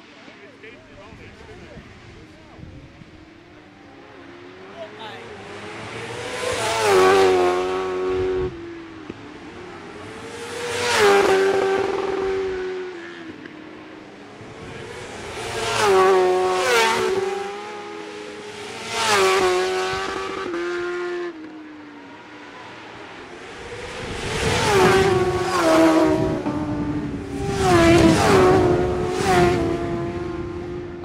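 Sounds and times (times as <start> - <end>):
racing motorcycles passing by: 0.0 - 31.0.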